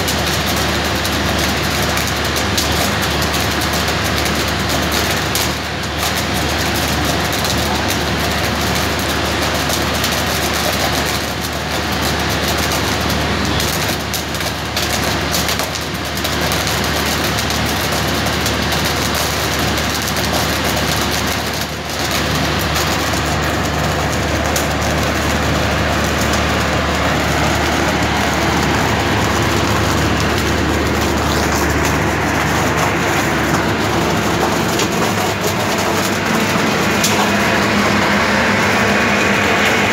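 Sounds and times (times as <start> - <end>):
constant low hum: 0.0 - 39.9
rail welding machine arcing: 0.0 - 39.9.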